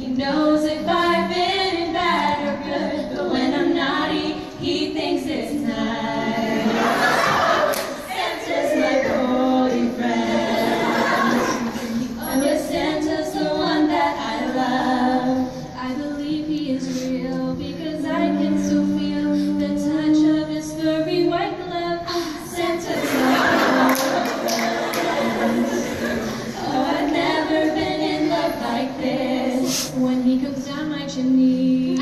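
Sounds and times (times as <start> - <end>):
female quartet singing in harmony: 0.0 - 32.0.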